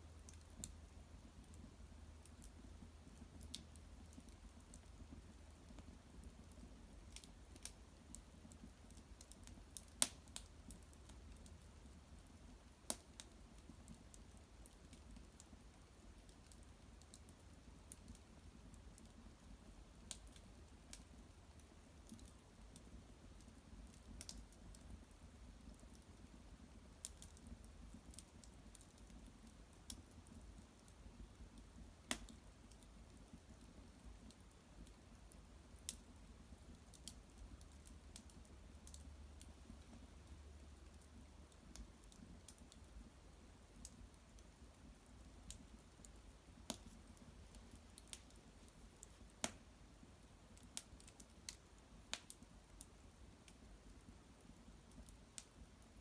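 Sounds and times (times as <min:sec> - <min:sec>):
small wood fire crackling: 0:00.0 - 0:56.0
fire pops and ticks: 0:00.2 - 0:56.0.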